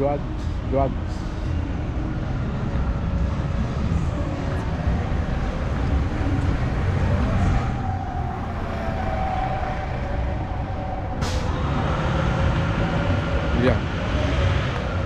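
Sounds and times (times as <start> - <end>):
faint engine whine: 0.0 - 15.0
vehicles passing: 0.0 - 15.0.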